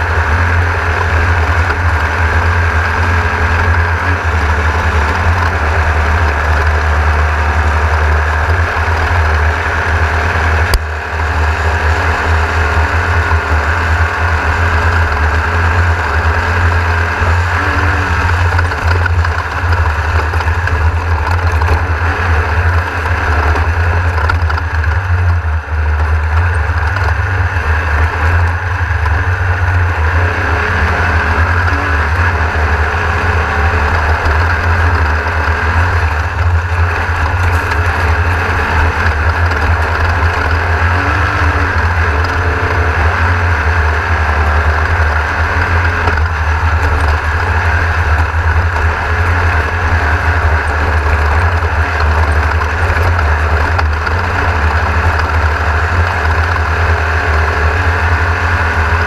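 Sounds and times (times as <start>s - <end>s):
race car engine rumble: 0.0s - 59.0s
road noise: 0.0s - 59.0s.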